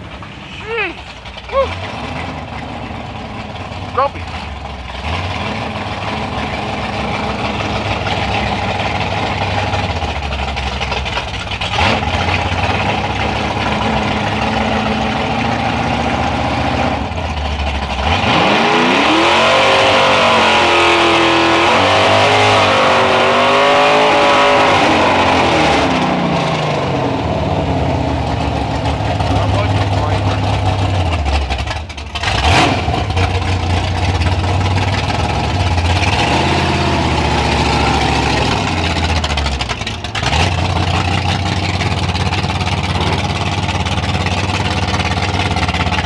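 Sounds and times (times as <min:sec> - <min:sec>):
drag car engine rumbling and accelerating: 0:00.0 - 0:46.0.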